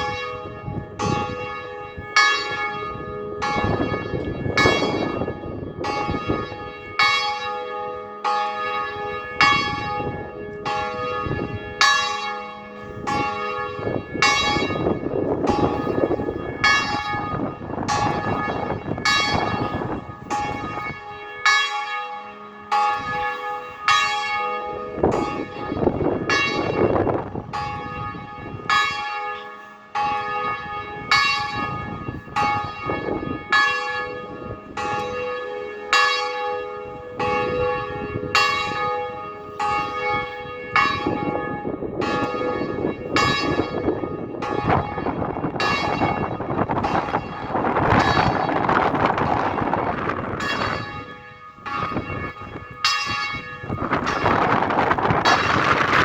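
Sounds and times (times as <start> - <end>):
gusts of wind: 0.0 - 22.0, 22.7 - 56.0
church bells ringing: 0.0 - 56.0.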